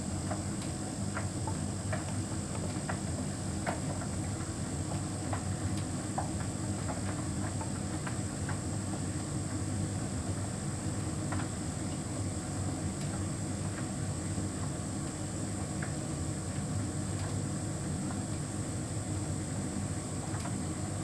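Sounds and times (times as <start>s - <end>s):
dryer low hum: 0.0s - 21.0s.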